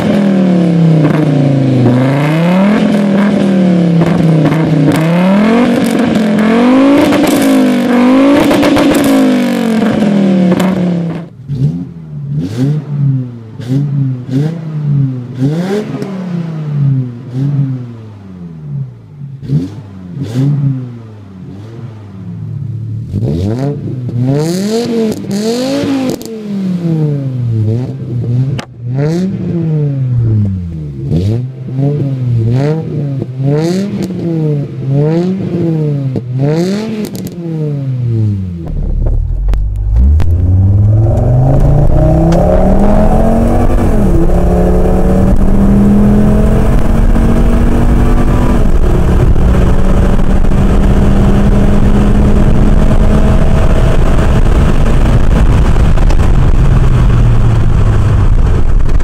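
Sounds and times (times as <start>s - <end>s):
car engine revving at tailpipe: 0.0s - 18.6s, 19.4s - 59.0s.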